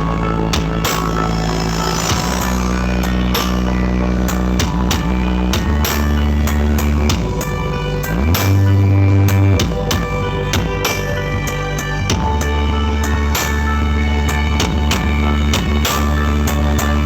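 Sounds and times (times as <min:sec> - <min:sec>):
electronic dance music with heavy bass: 0:00.0 - 0:17.0.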